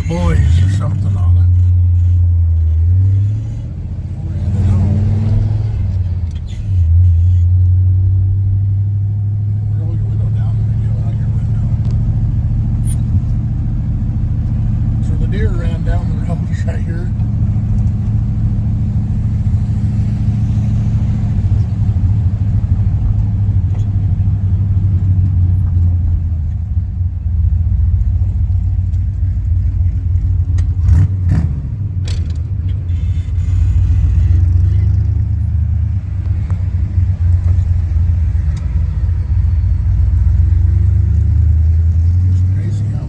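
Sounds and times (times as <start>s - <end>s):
engine and road rumble: 0.0s - 43.0s.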